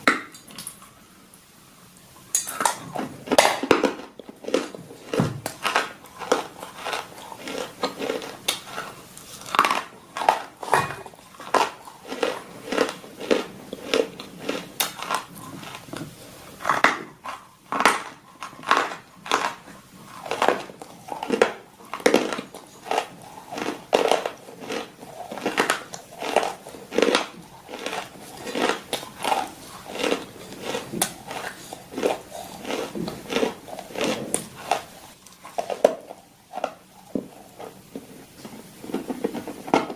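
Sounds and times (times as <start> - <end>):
crunchy food being chewed: 2.3 - 39.9.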